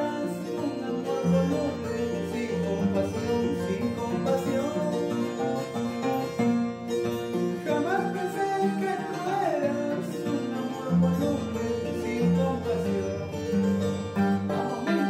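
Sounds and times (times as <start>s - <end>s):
man singing: 0.0s - 6.0s, 7.4s - 15.0s.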